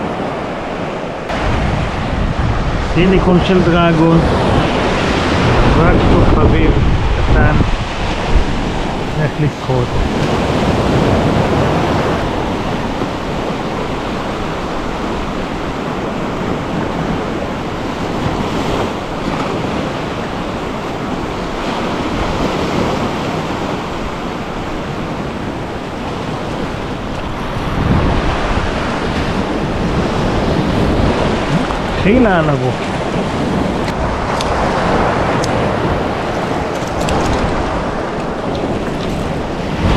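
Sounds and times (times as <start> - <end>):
surf on rocky shore: 0.0 - 39.9
wind buffeting microphone: 0.0 - 39.9.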